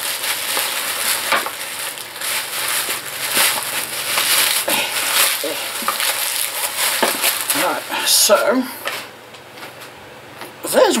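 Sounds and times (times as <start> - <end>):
plastic bag crinkling: 0.0 - 9.1.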